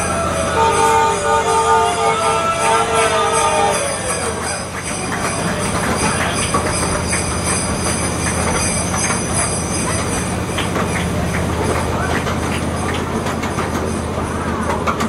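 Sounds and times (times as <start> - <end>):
miniature train rumbling: 0.0 - 15.0
wheels clicking on rails: 0.0 - 15.0.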